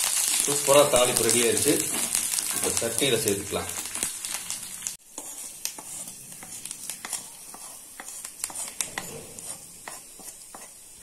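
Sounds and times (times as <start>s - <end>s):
small crackles and pops: 0.0s - 9.1s
hot oil sizzling: 0.0s - 11.0s.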